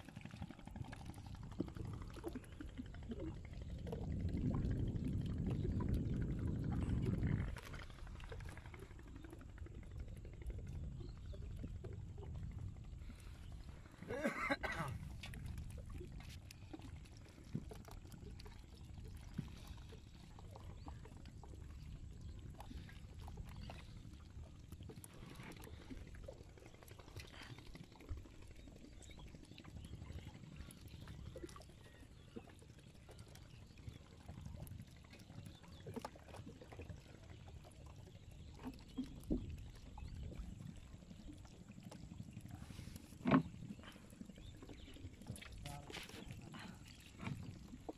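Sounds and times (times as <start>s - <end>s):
low steady rumble: 0.0s - 47.9s
water sloshing and splashing: 0.0s - 47.9s.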